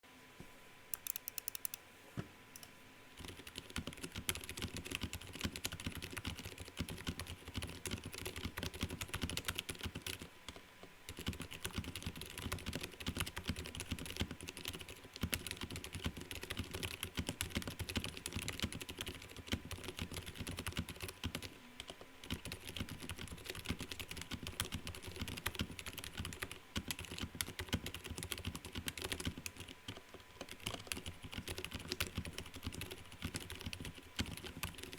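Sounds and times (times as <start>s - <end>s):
faint steady hum: 0.0s - 34.9s
mechanical keyboard typing: 1.0s - 1.8s, 2.6s - 34.9s.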